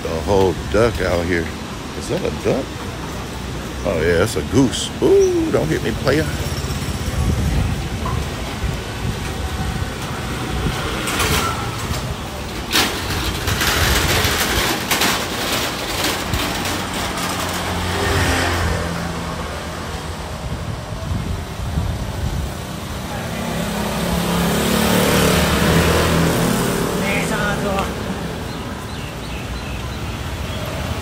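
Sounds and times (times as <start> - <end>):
motor scooters passing: 2.9 - 31.0.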